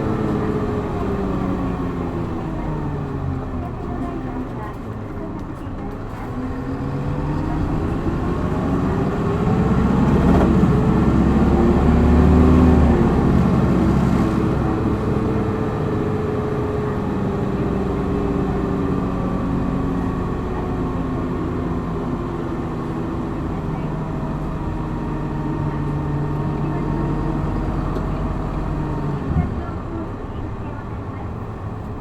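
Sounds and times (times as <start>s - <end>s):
bus diesel engine pulling hard: 0.0s - 32.0s.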